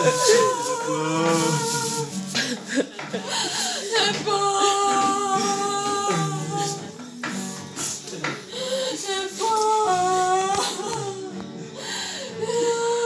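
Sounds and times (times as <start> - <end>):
music: 0.0 - 13.0
person singing: 0.0 - 13.0.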